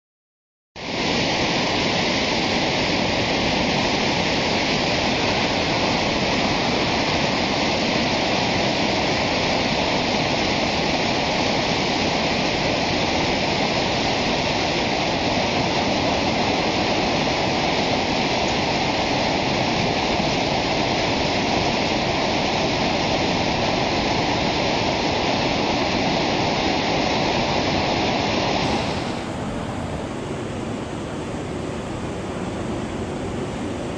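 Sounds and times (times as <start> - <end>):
rushing floodwater: 0.8 - 33.9.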